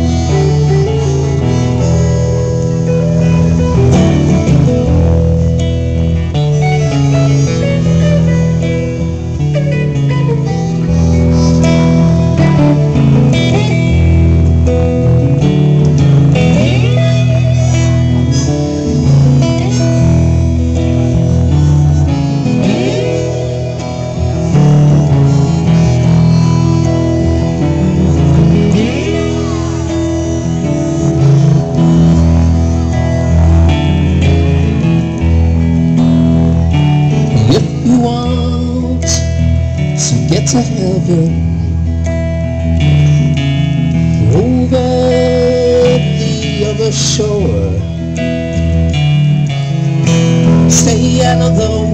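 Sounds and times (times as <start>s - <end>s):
acoustic guitar: 0.0s - 51.9s
bass line: 0.0s - 51.9s
electric guitar: 0.0s - 51.9s
harmonica: 0.0s - 51.9s.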